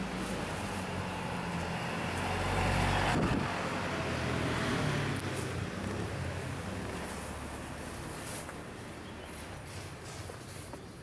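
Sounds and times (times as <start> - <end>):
vehicle engine passing: 0.0 - 9.4.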